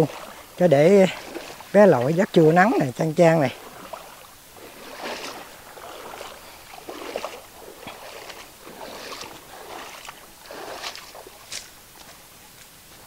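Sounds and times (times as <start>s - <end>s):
water splashing from wading: 0.0s - 11.8s.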